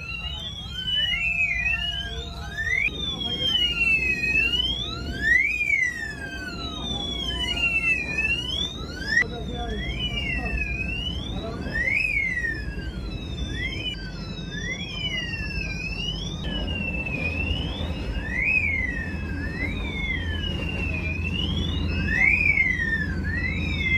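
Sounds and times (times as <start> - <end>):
fire alarm wailing tones: 0.0 - 23.9.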